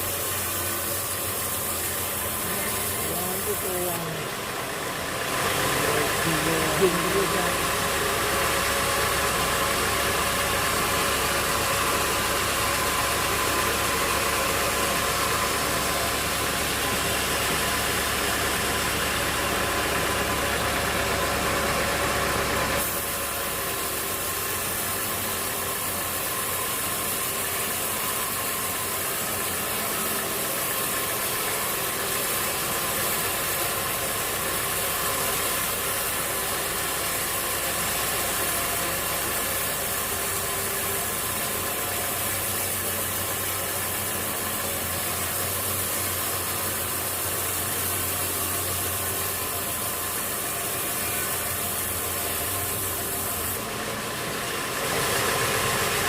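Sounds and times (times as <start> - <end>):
machinery humming: 0.0 - 56.0.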